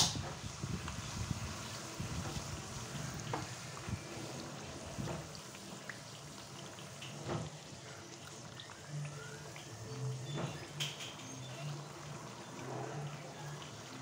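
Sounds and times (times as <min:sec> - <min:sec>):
oil sizzling and bubbling: 0:00.0 - 0:14.0.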